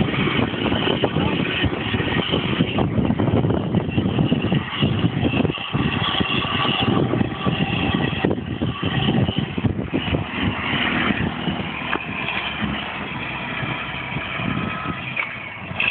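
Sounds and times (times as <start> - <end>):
diesel truck engine rumbling: 0.0 - 15.9.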